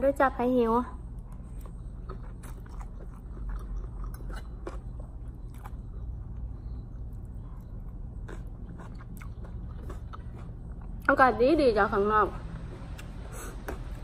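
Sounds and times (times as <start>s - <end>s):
chewing with smacks and crunches: 1.1s - 11.2s, 12.5s - 14.0s.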